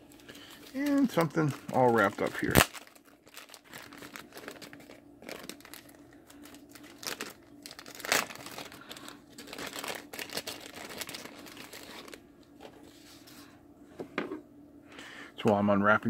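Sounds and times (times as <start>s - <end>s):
wrapping crinkling and rustling: 0.0s - 13.5s.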